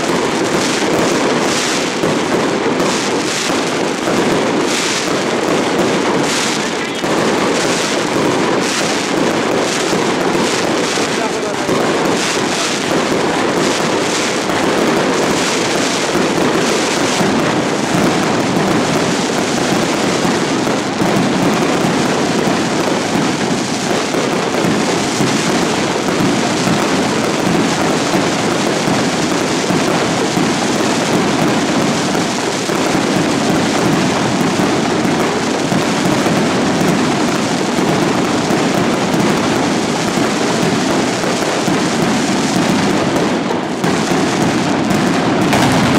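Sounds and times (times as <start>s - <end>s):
firecrackers exploding in a barrage: 0.0s - 45.9s.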